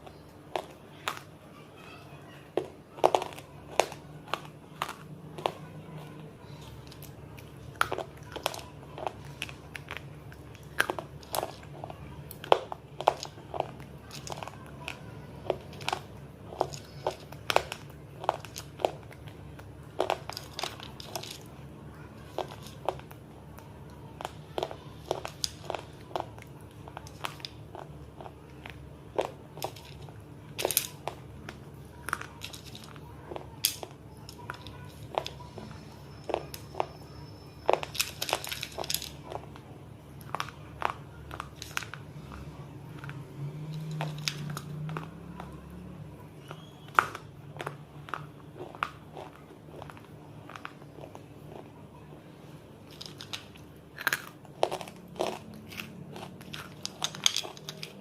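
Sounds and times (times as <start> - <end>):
crunching hard food in mouth: 2.2 - 51.8, 52.8 - 58.0.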